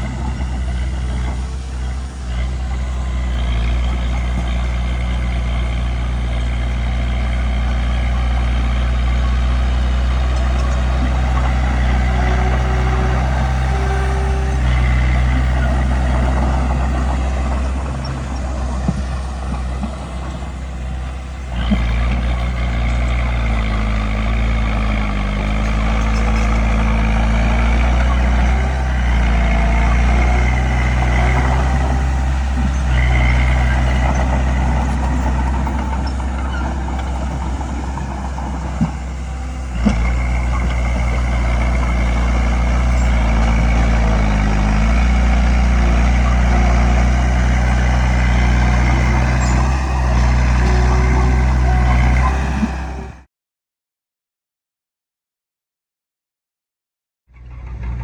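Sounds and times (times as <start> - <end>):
bulldozer diesel engine under load: 0.0 - 53.3, 57.3 - 58.0.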